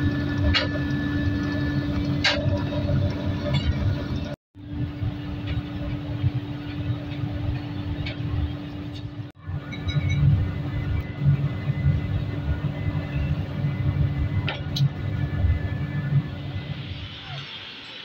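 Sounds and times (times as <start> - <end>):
steady hum: 0.0 - 17.4
furnace fire rumbling: 0.0 - 17.8.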